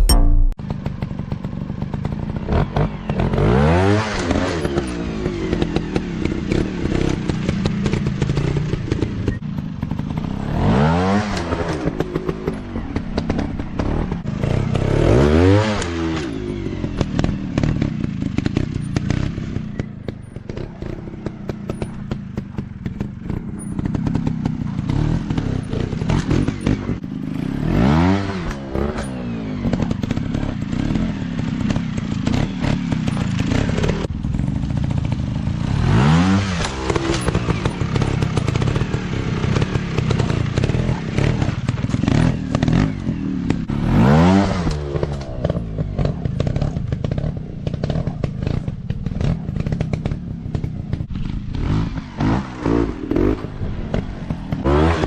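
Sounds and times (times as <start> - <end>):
dirt bike engines revving: 1.2 - 55.0.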